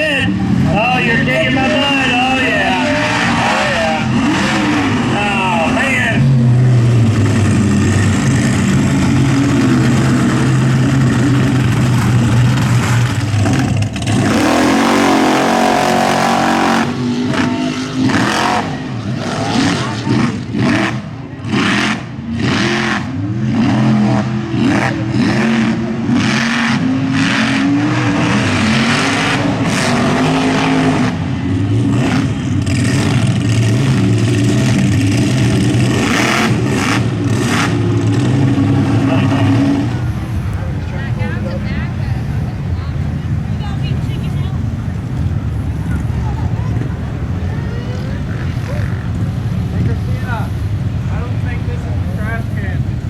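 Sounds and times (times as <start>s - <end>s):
truck engine revving hard: 0.0s - 53.0s.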